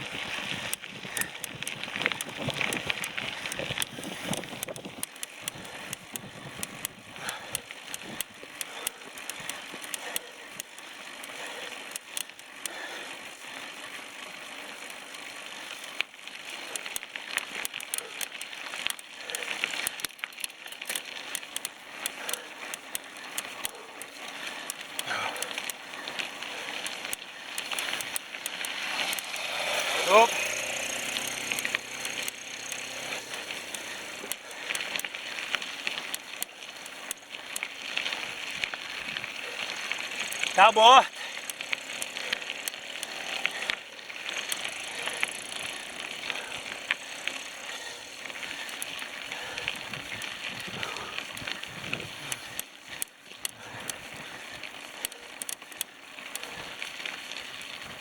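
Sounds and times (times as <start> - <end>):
bicycle tyres rolling: 0.0 - 58.0
bike clicks and rattles: 0.0 - 58.0.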